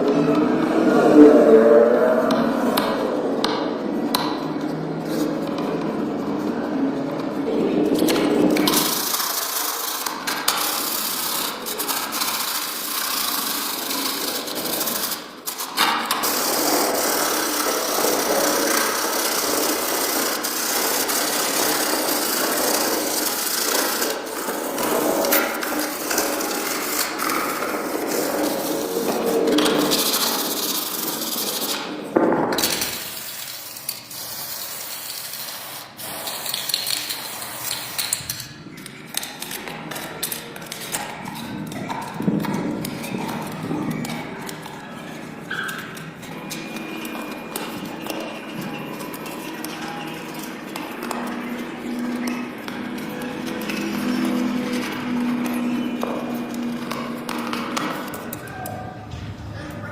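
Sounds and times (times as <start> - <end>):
quiet working sound: 0.0 - 59.9.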